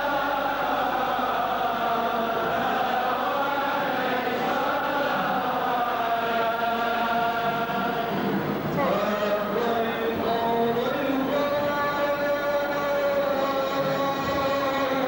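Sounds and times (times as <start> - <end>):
voices chanting a hymn: 0.0 - 15.0.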